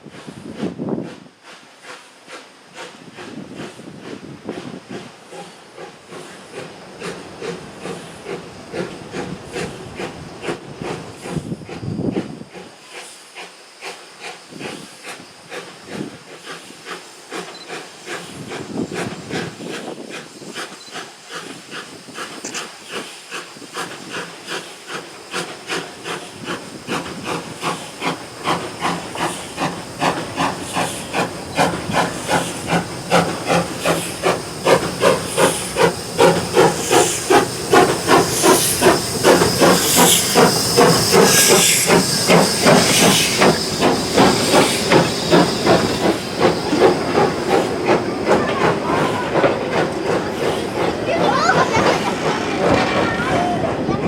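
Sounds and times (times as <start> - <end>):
steam hissing: 0.0 - 54.0
steam locomotive chuffing: 0.0 - 54.0.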